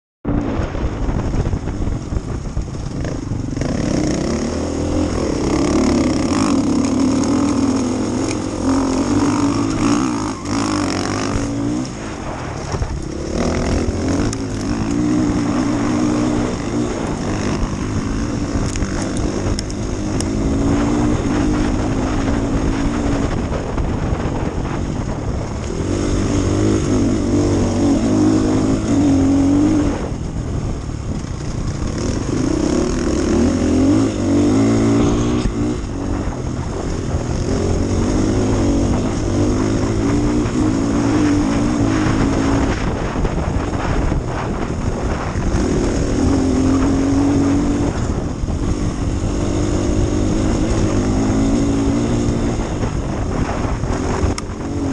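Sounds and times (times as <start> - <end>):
motorcycle engine revving: 0.2 - 54.9.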